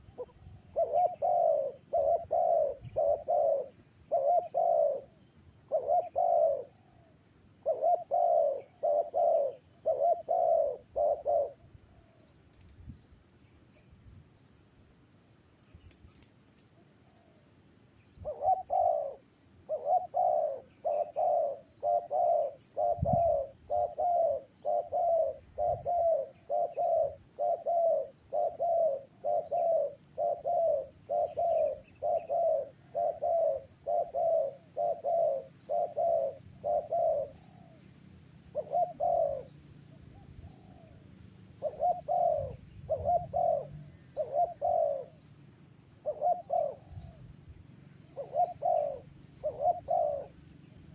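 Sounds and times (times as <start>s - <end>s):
dove cooing: 0.0s - 12.4s, 18.1s - 50.9s
small birds chirping: 0.0s - 50.9s.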